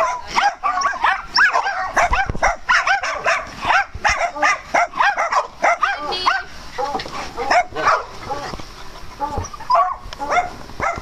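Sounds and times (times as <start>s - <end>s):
small dogs yipping and barking: 0.0s - 11.0s.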